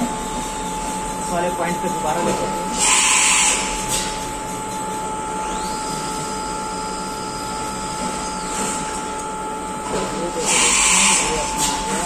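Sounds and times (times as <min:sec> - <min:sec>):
machine electrical hum: 0:00.0 - 0:12.0.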